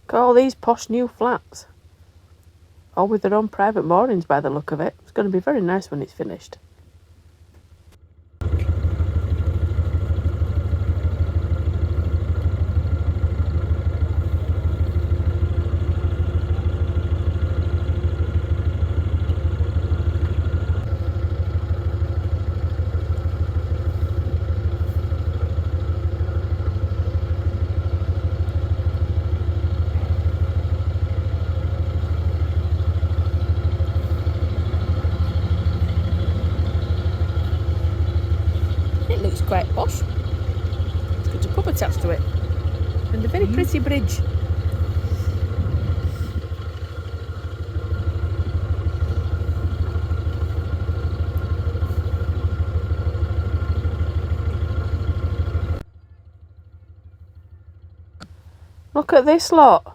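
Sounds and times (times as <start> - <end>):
diesel engine throbbing: 8.4 - 59.9.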